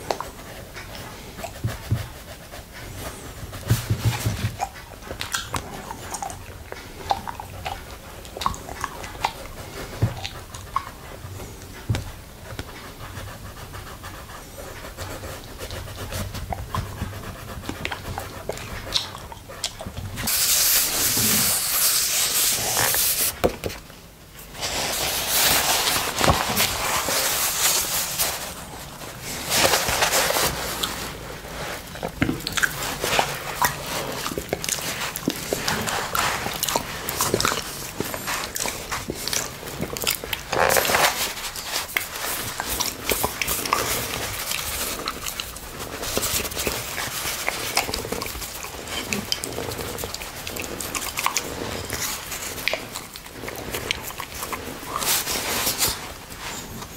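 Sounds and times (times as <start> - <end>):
wet licking: 0.0 - 23.4, 24.4 - 56.9.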